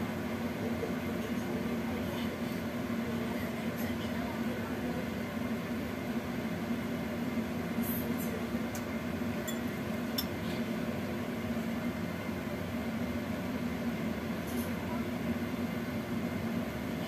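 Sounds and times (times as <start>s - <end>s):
steaming wok hum and hiss: 0.0s - 17.0s.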